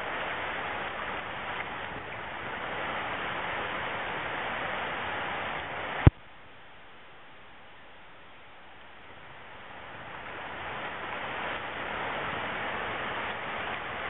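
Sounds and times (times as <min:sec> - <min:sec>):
fast river rushing over rocks: 0:00.0 - 0:06.1, 0:07.4 - 0:14.0.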